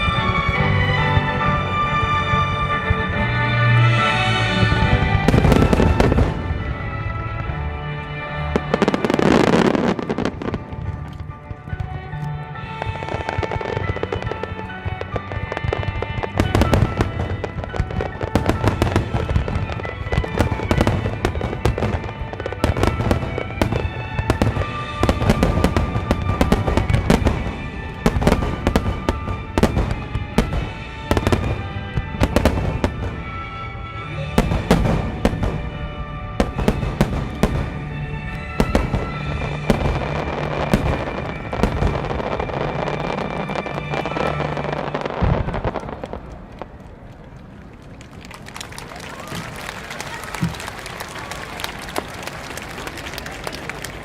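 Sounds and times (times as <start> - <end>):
song playing: 0.0 - 46.0
fireworks bursting: 0.0 - 54.0.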